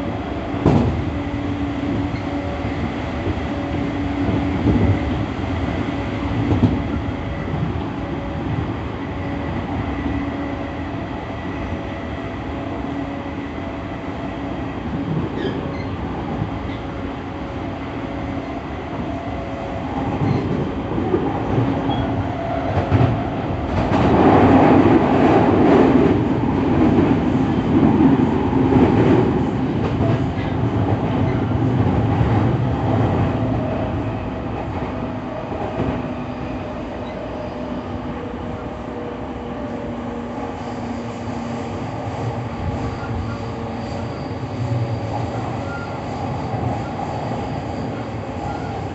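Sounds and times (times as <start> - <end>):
electric train hum: 0.0 - 48.9
wheels rumbling on rail: 0.0 - 48.9.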